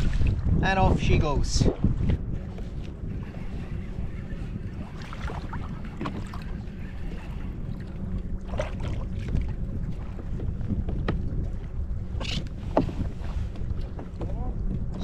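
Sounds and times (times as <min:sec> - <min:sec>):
water lapping at kayak hull: 0:00.0 - 0:15.0
wind rumbling on microphone: 0:00.0 - 0:15.0.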